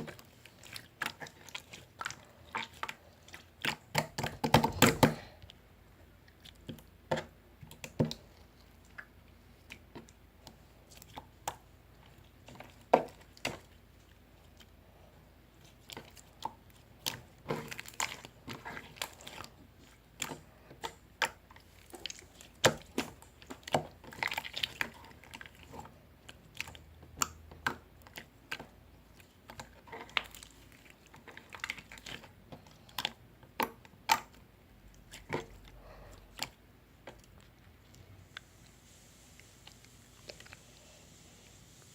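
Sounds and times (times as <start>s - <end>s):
slime squishing: 0.0s - 41.9s.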